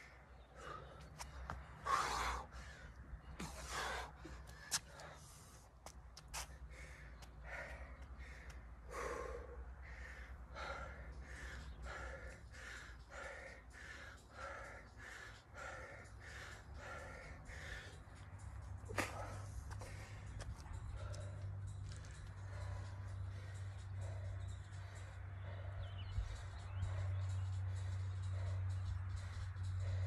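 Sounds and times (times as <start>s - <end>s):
man panting: 0.0s - 30.0s.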